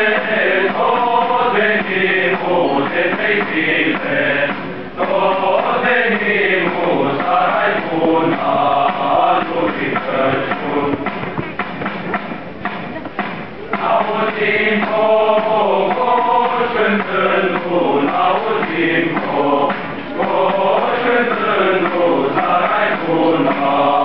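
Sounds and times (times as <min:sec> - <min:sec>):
male choir singing a carol: 0:00.0 - 0:11.3, 0:13.6 - 0:24.0.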